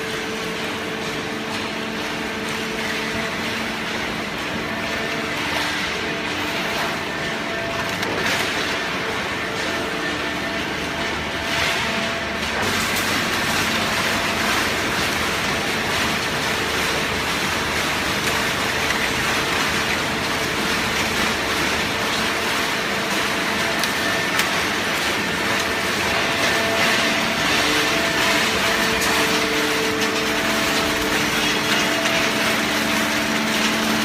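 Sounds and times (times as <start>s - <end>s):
hydraulic baler running: 0.0s - 34.0s.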